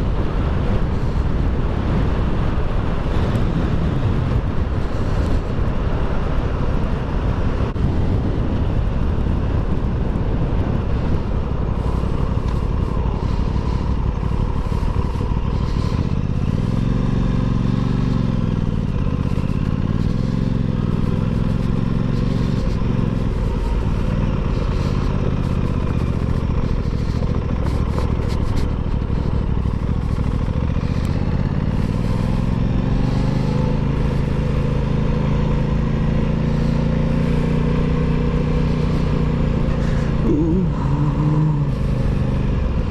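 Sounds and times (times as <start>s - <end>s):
wind rush on microphone: 0.0s - 37.4s, 38.6s - 42.9s
motorcycle engine revving: 0.0s - 42.9s.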